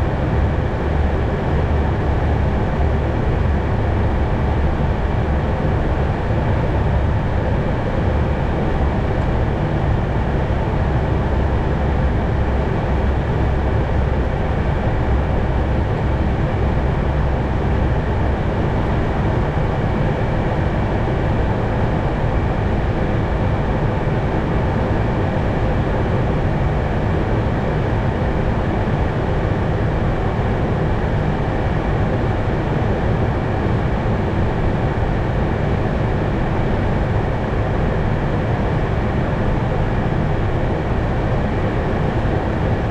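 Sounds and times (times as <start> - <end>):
airflow rush and engine hum: 0.0 - 42.9.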